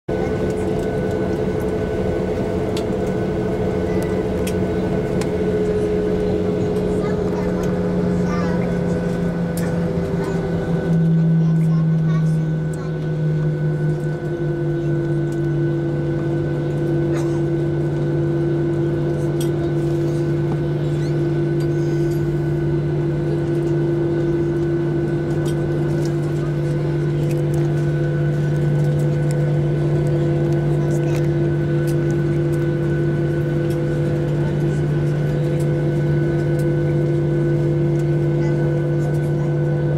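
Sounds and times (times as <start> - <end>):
jet engines whining and rumbling: 0.1 - 39.9.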